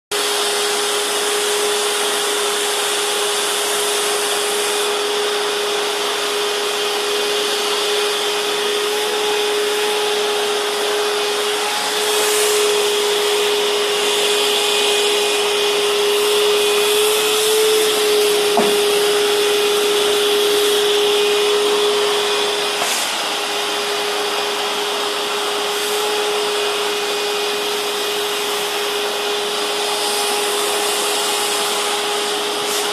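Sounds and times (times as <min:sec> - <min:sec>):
vacuum cleaner running: 0:00.1 - 0:32.9.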